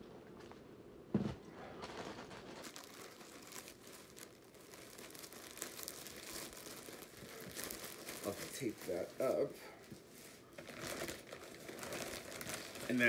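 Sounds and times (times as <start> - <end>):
plastic packaging crinkling: 1.5 - 13.0.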